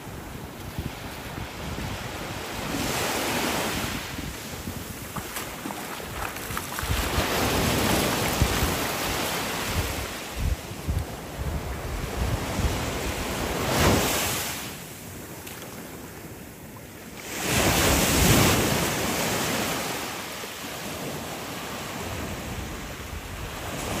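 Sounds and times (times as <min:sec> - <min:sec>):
small waves washing up sand: 0:00.0 - 0:24.0.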